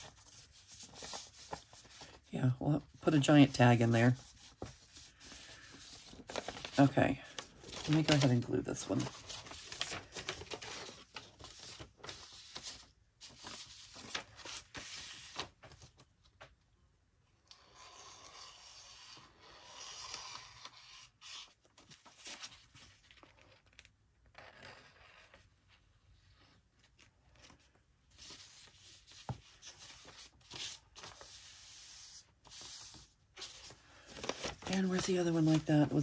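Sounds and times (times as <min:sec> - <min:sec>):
paper rustling and rubbing: 0:00.0 - 0:16.0, 0:18.4 - 0:36.0.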